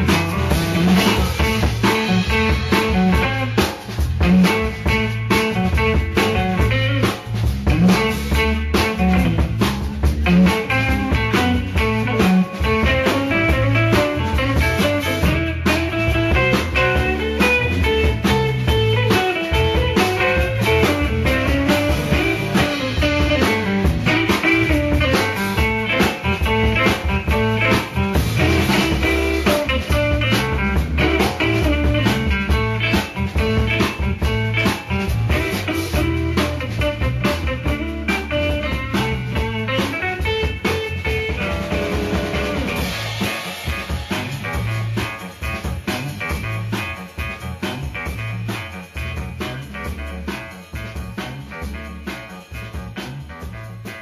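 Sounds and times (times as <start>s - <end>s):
blues-rock music with guitar and drums: 0.0s - 54.0s.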